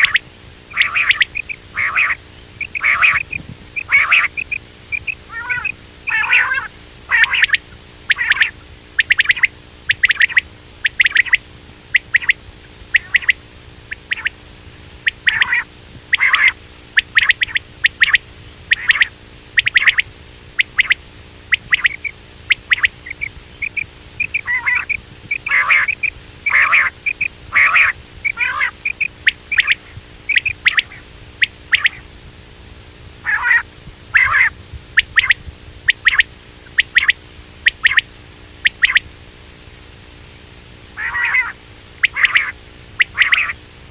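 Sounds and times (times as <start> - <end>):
quail calling: 0.0 - 14.4, 15.0 - 32.1, 33.2 - 39.1, 41.0 - 43.6.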